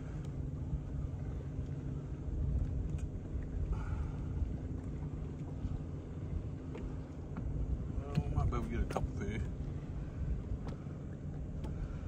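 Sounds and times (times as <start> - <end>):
steady low hum: 0.0 - 12.0
wind rumbling on microphone: 0.0 - 12.0.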